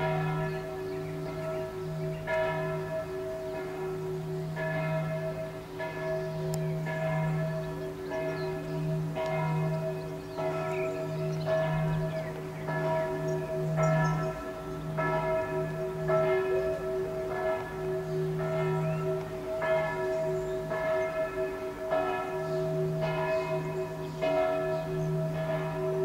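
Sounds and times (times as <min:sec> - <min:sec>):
church bell ringing: 0:00.0 - 0:26.0.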